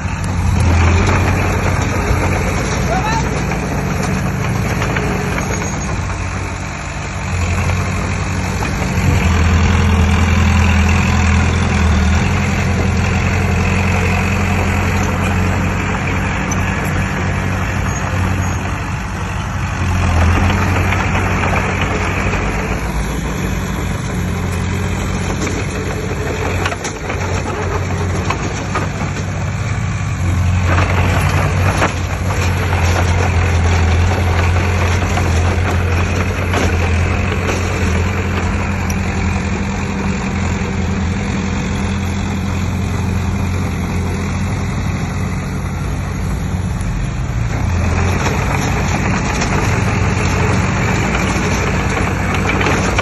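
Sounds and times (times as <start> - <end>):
heavy diesel engine revving: 0.0 - 53.0.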